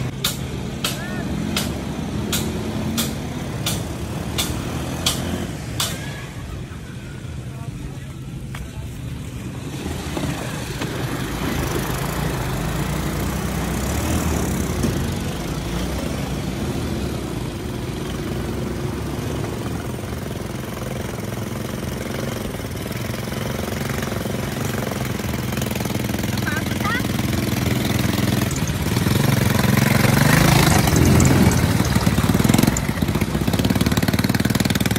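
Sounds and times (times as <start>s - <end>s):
quad bike engine running: 0.0s - 34.9s.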